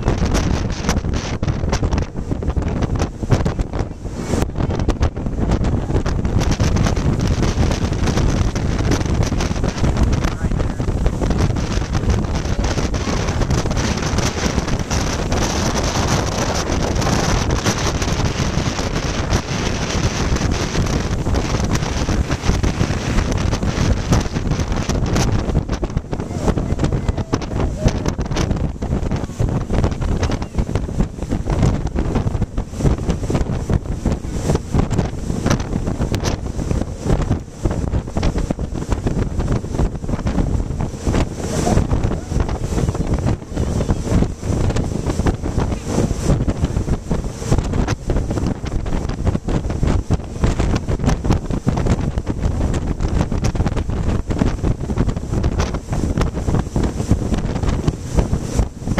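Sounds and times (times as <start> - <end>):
boat engine: 0.0 - 58.9
water rushing past hull: 0.0 - 58.9
wind buffeting microphone: 0.0 - 58.9.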